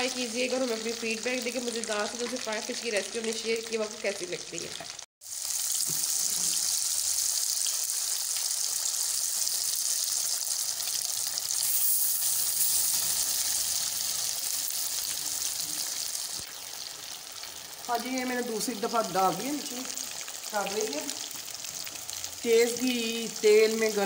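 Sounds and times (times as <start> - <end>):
fish deep-frying sizzle: 0.0 - 24.0.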